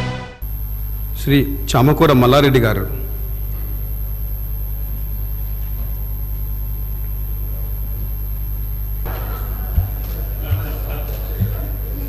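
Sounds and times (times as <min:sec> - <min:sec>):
low hall background hum: 0:00.0 - 0:12.0.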